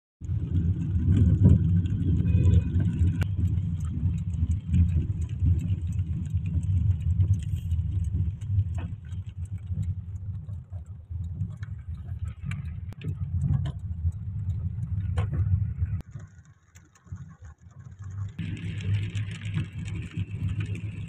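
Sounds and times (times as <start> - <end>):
raindrops ticking on glass: 0.2 - 21.0
road and engine rumble: 0.2 - 21.0.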